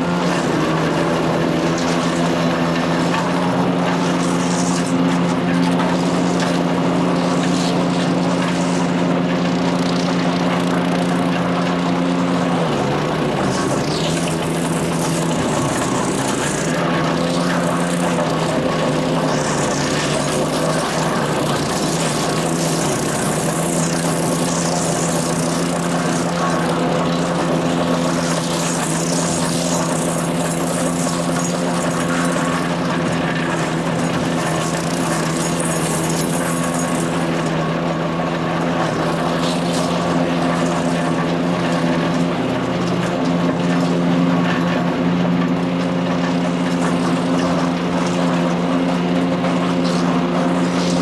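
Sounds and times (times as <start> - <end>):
chipper shredder engine running: 0.0 - 51.0.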